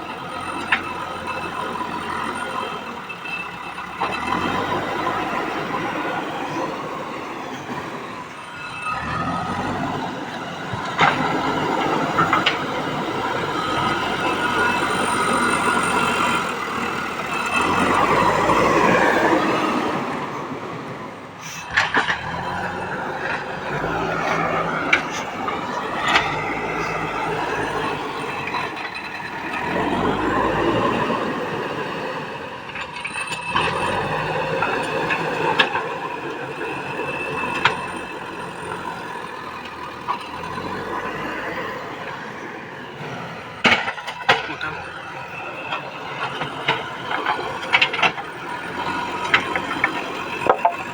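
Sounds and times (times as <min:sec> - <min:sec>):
diesel engine working: 0:00.0 - 0:50.9.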